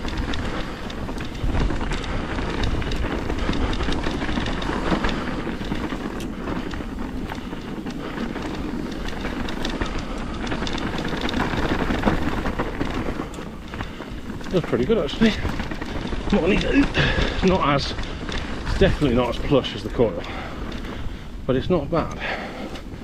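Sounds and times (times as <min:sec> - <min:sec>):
bike rattling and clicking: 0:00.0 - 0:23.0
bike tyres rolling over dirt: 0:00.0 - 0:23.0
wind noise on microphone: 0:00.0 - 0:23.0.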